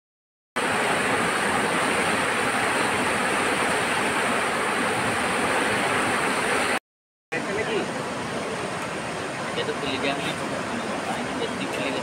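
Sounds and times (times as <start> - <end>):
floodwater rushing: 0.6 - 6.8, 7.4 - 12.0.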